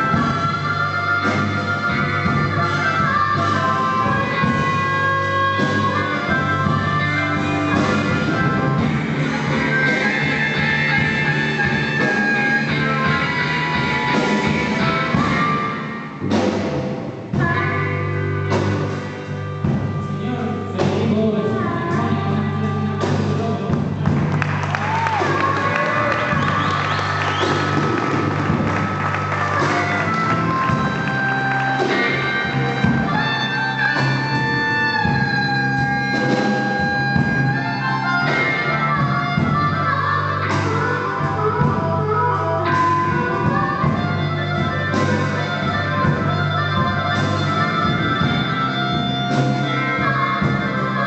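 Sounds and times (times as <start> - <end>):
person singing: 0.0 - 16.5, 19.2 - 51.0
blues band playing: 0.0 - 51.0.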